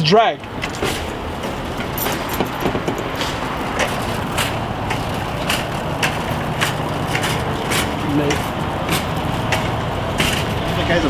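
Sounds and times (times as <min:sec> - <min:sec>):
car engine rumble: 0:00.0 - 0:11.0
road noise: 0:00.0 - 0:11.0
sharp regular ticking: 0:00.4 - 0:11.0.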